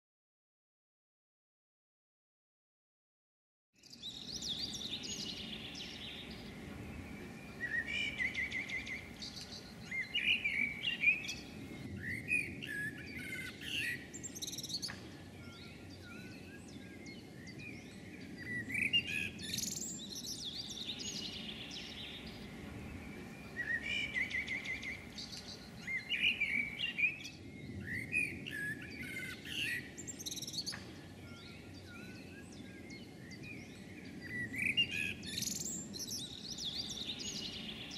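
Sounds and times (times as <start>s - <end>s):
low background noise: 3.8s - 37.9s
songbirds chirping and singing: 3.8s - 37.9s.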